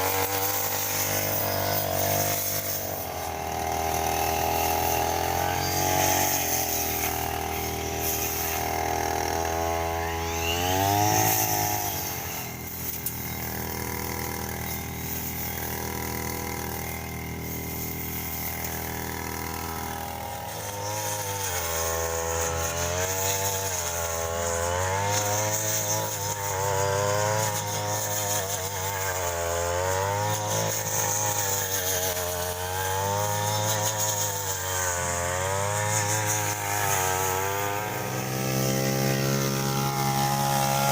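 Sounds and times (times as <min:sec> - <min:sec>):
petrol lawn mower cutting grass: 0:00.0 - 0:40.9.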